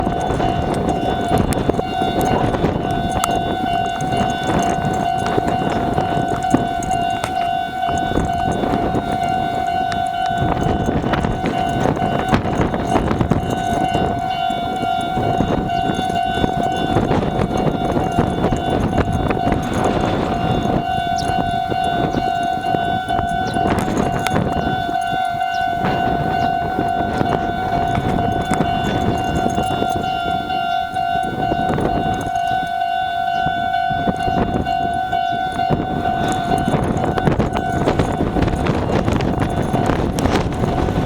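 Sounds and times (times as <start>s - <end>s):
level-crossing alarm ringing: 0.0s - 41.0s
train passing on rails: 0.0s - 41.0s.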